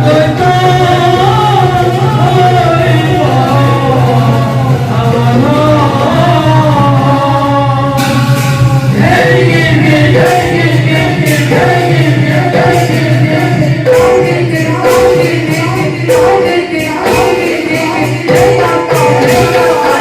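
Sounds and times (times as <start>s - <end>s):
jingling percussion strokes: 0.0s - 20.0s
voices singing together: 0.0s - 20.0s.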